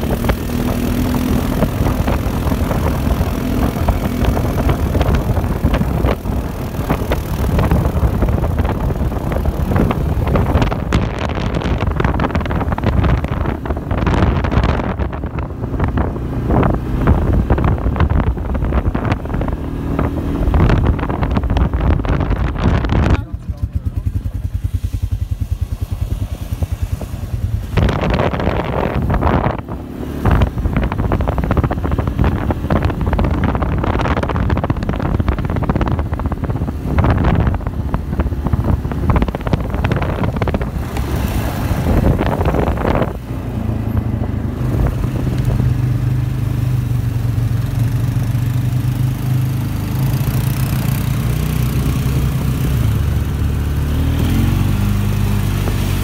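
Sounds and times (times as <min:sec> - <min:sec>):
atv engines running: 0:00.0 - 0:56.0.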